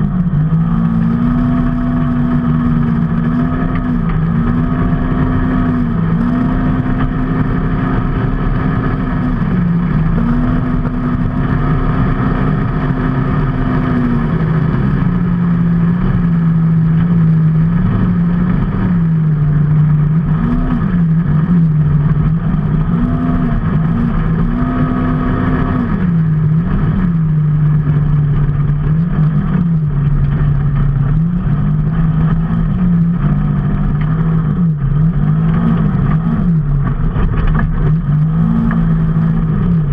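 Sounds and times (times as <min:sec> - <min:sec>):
vehicle engine changing gear: 0:00.0 - 0:39.9
wind and road noise: 0:00.0 - 0:39.9.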